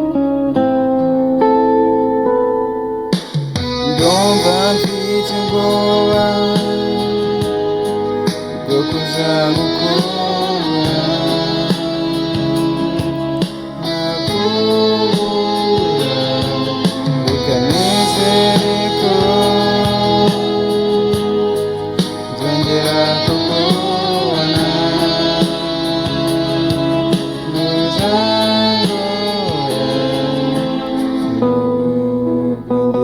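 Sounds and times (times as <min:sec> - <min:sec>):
plucked guitar: 0:00.0 - 0:33.0
steady beat: 0:03.1 - 0:31.9
person singing: 0:03.6 - 0:33.0.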